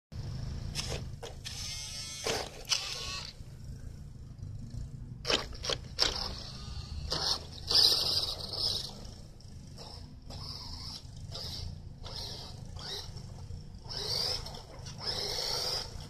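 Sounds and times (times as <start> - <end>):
toy car electric motor whirring: 0.7 - 3.5, 5.2 - 16.0.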